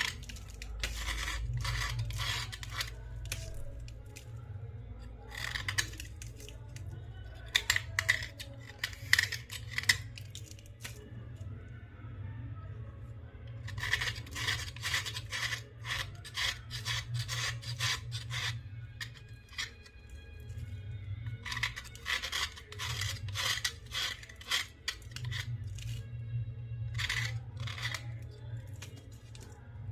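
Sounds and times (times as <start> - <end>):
slate pencils crunching and cracking: 0.0 - 4.4, 5.1 - 11.1, 13.5 - 26.1, 26.9 - 29.7.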